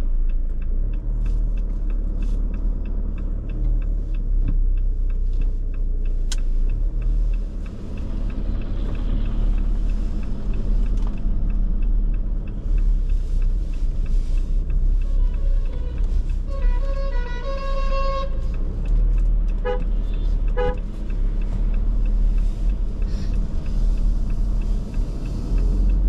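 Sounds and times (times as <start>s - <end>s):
car engine and road noise: 0.0s - 26.0s
light regular ticking: 0.0s - 26.0s.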